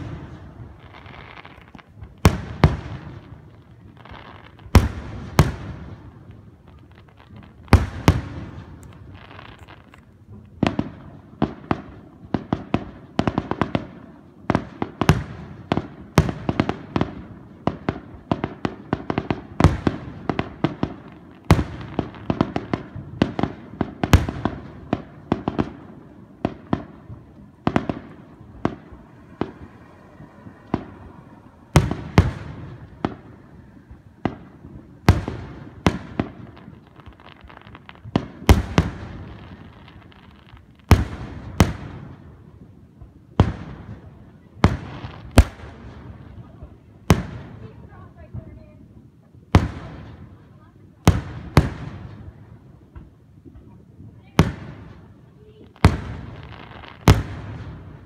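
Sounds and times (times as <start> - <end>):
fireworks bursting with echo: 0.0 - 58.0.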